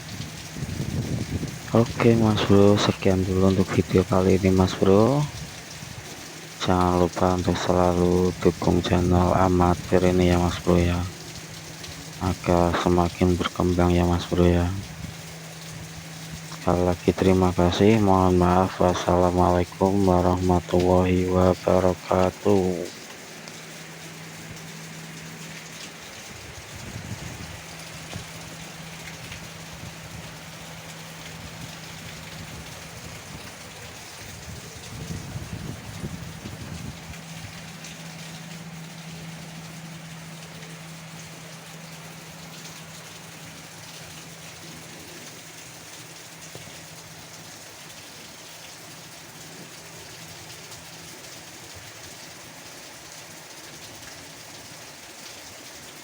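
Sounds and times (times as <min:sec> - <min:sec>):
steady low hum: 0:00.0 - 0:52.8
heavy rain: 0:00.0 - 0:56.0.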